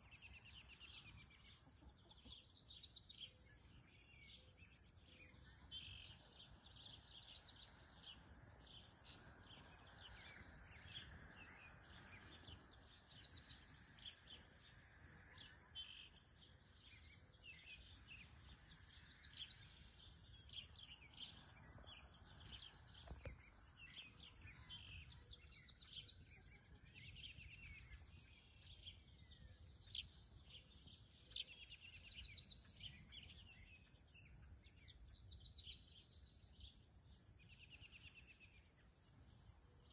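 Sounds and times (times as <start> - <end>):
bird chirps: 0.0 - 39.9
bird trilling song: 0.0 - 39.9.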